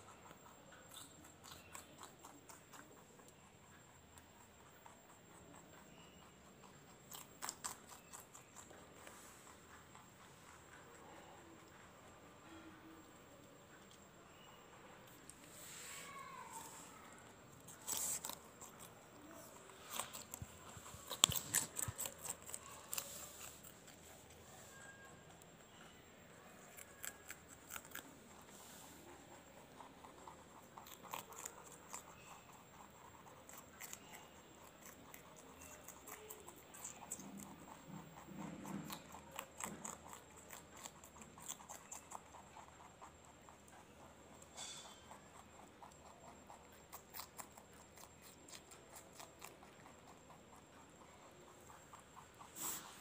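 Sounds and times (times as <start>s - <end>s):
rabbits chewing vegetables: 0.0s - 53.0s.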